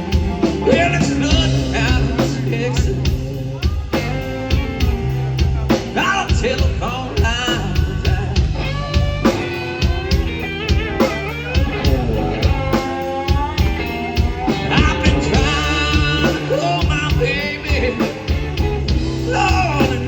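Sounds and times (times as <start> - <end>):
bass guitar: 0.0 - 20.0
electric guitar: 0.0 - 20.0
person singing: 0.0 - 20.0
steady drum beat: 0.0 - 20.0.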